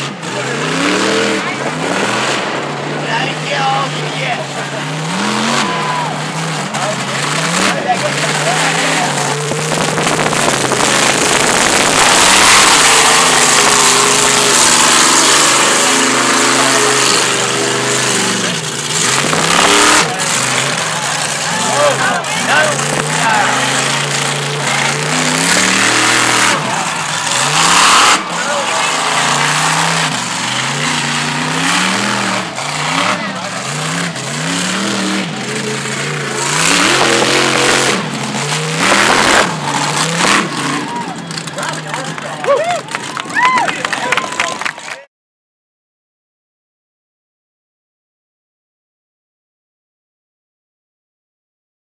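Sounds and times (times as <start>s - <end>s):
loud rushing noise: 0.0s - 42.2s
truck engine revving: 0.0s - 45.1s.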